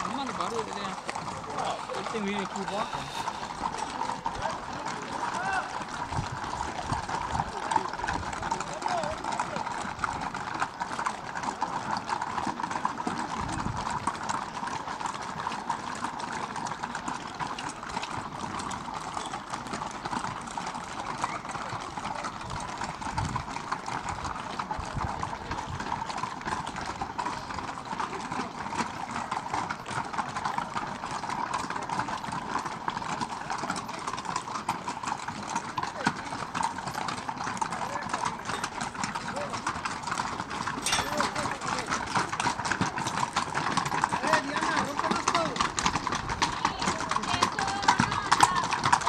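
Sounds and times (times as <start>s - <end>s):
hooves clip-clopping on cobblestones: 0.0s - 49.0s.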